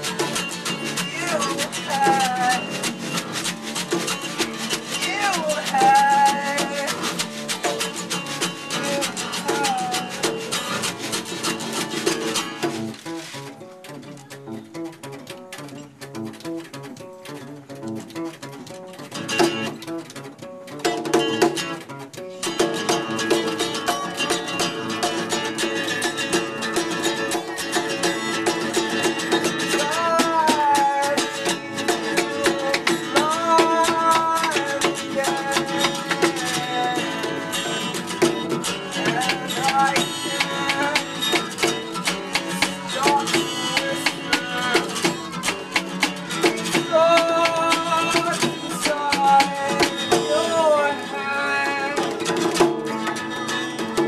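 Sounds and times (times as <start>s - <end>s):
acoustic guitars strummed: 0.0s - 54.0s
hand drum beating: 0.0s - 54.0s.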